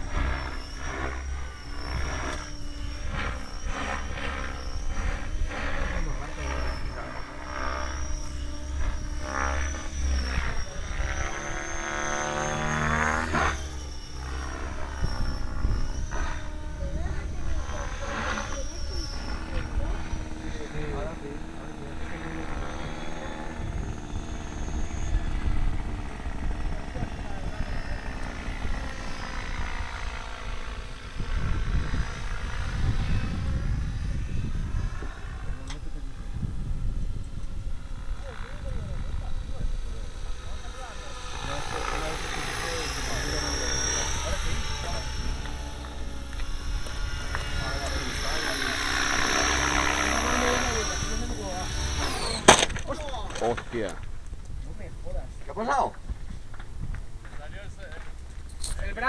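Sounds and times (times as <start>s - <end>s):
radio-controlled helicopter whine: 0.0s - 59.0s
wind rumble on microphone: 0.0s - 59.0s.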